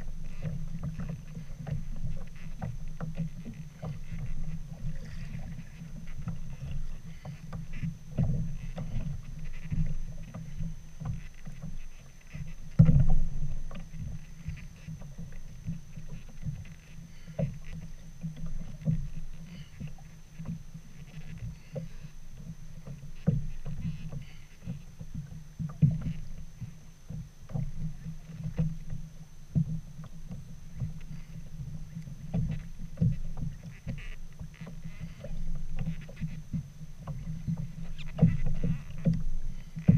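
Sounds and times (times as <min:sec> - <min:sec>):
waves slapping against kayak hull: 0:00.0 - 0:39.9.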